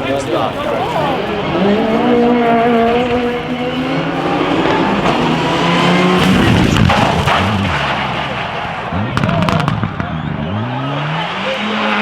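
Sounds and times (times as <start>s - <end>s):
tyre noise: 0.0s - 11.6s
car engine at high revs: 0.0s - 12.0s.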